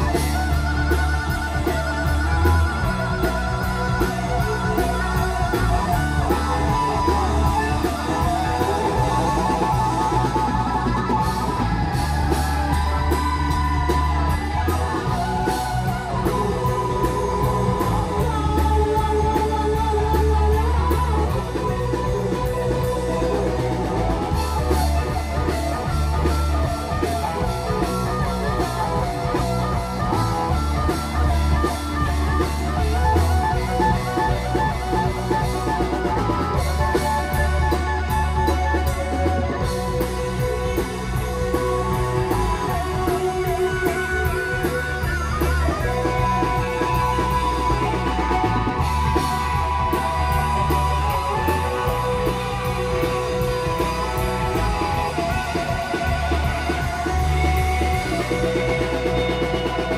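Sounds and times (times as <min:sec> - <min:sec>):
bass line: 0:00.0 - 0:59.9
drum kit: 0:00.0 - 0:59.9
electric guitar: 0:00.0 - 0:59.9.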